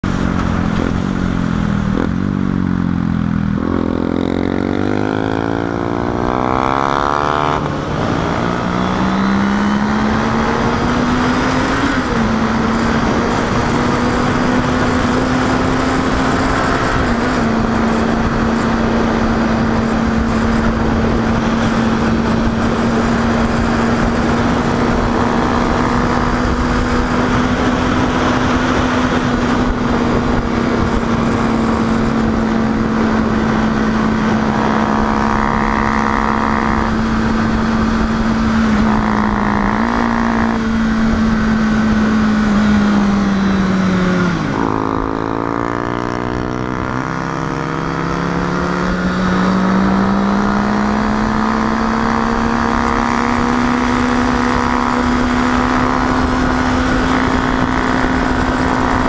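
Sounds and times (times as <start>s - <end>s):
motorcycle engine accelerating: 0.0s - 59.0s
wind rush: 3.3s - 59.0s.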